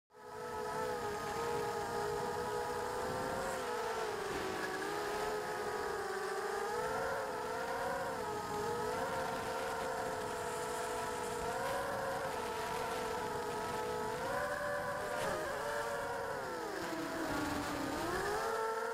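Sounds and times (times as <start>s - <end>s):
drone motors whining: 0.1s - 18.9s.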